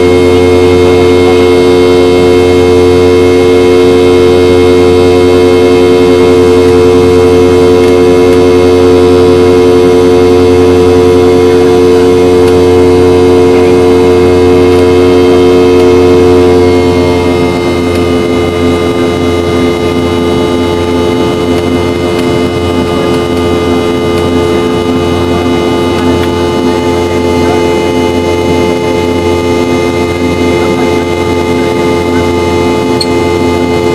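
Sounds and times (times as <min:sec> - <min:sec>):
jet engines whining in cabin: 0:00.0 - 0:33.9.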